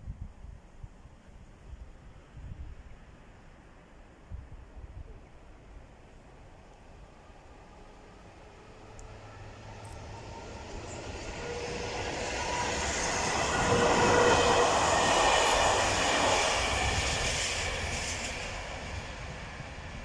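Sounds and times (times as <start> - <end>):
train rumble and wheel noise: 0.0 - 20.0.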